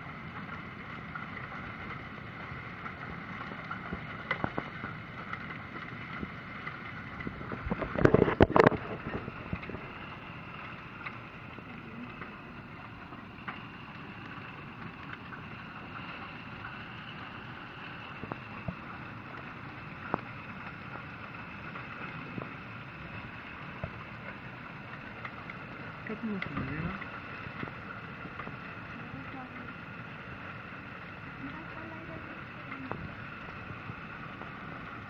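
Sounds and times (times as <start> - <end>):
hailstones ticking: 0.0 - 35.0
rain and hail hissing: 0.0 - 35.0.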